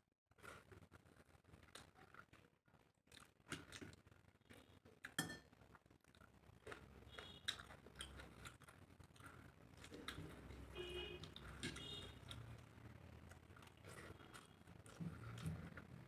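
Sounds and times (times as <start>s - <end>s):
chewing: 0.4s - 16.0s.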